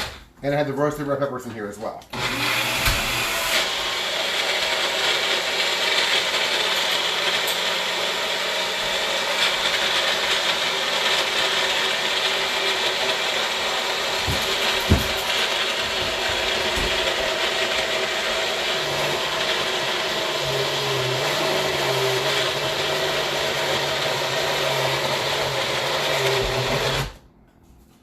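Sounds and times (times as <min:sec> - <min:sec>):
blender motor whirring: 0:02.1 - 0:27.2.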